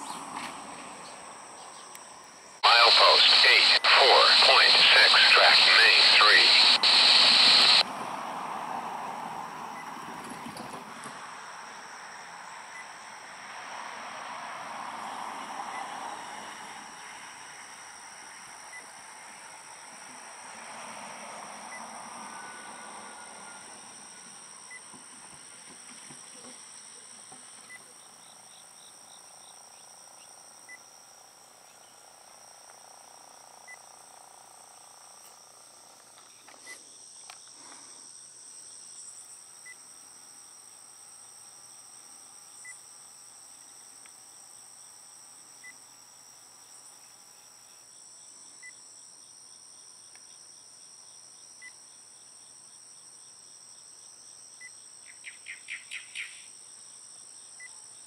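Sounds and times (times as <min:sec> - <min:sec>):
insects trilling: 0:01.4 - 0:07.8, 0:15.0 - 0:58.0.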